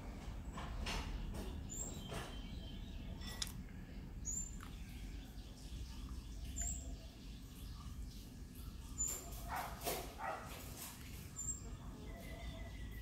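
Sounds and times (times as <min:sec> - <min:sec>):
bird chirping: 0:00.5 - 0:03.4, 0:04.1 - 0:13.0.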